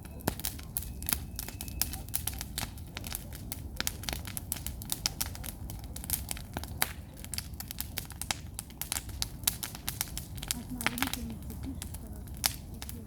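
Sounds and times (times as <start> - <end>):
campfire crackling and popping: 0.0 - 13.0
low background noise: 0.0 - 13.0.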